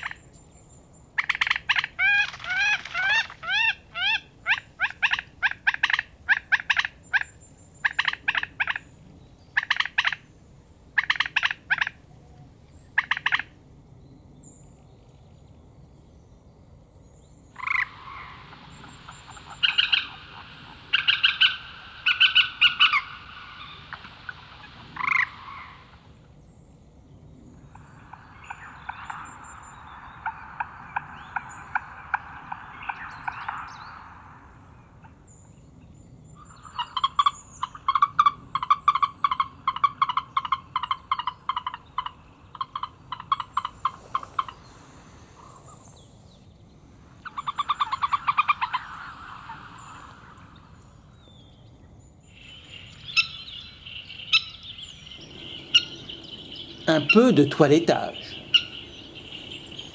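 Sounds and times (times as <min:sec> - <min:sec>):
harsh rattling animal calls: 0:01.2 - 0:08.9, 0:09.6 - 0:10.3, 0:11.0 - 0:12.0, 0:13.0 - 0:13.5, 0:17.6 - 0:26.2, 0:27.6 - 0:35.3, 0:36.3 - 0:51.2, 0:52.2 - 0:59.9.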